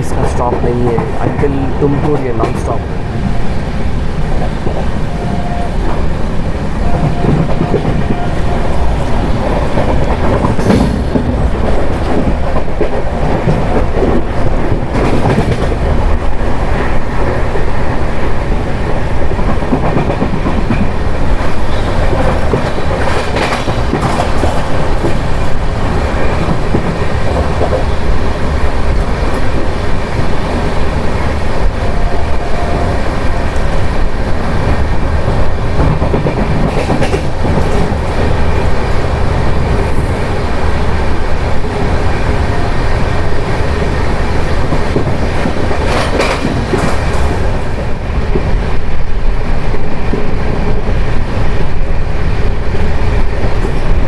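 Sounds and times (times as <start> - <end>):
train rumbling on track: 0.0 - 54.0
wheels clacking over rail joints: 6.8 - 51.2.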